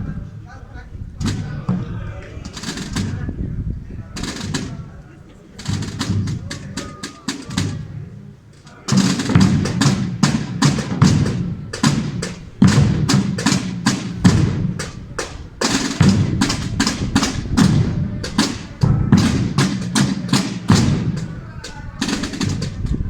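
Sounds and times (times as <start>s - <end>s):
snare and bass drums playing: 1.2s - 3.4s, 4.2s - 23.0s.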